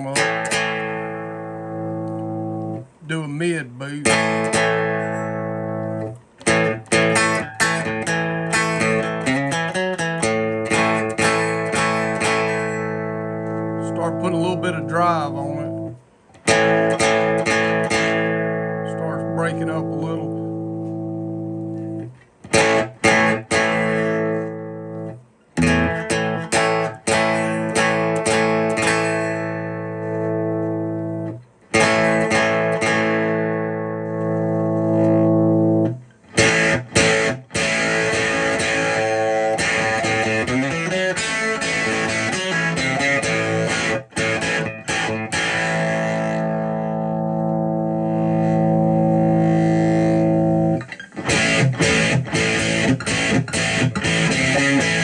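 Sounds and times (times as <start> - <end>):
overdriven electric guitar: 0.0 - 3.0, 3.9 - 55.0.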